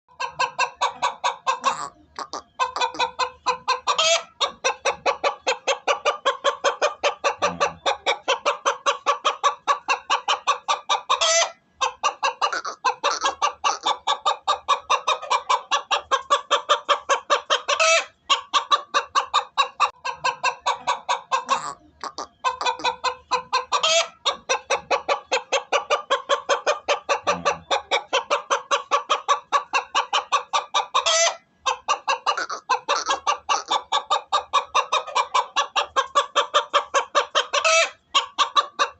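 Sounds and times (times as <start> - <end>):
chicken clucking: 0.1 - 38.9.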